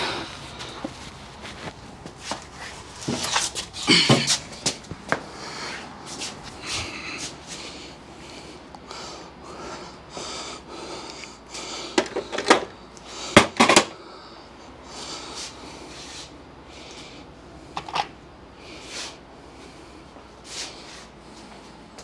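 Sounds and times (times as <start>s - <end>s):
man breathing heavily: 0.0s - 1.6s, 3.6s - 17.8s, 18.4s - 22.0s.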